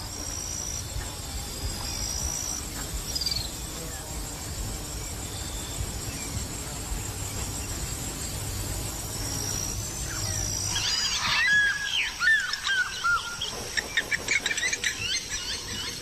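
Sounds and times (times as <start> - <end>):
birds chirping: 0.0 - 16.0
natural ambience: 0.0 - 16.0.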